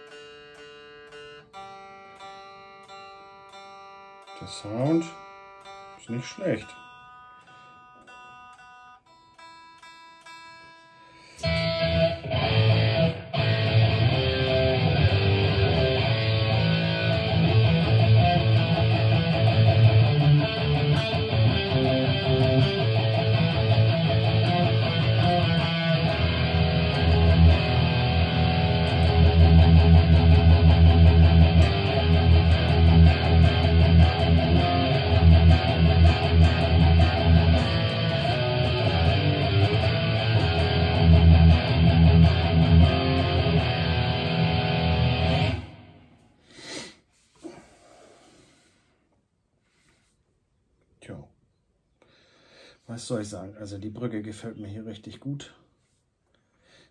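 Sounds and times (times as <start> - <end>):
electric guitar ringing chord: 0.0 - 46.2
electric guitar rhythm playing: 0.0 - 46.4.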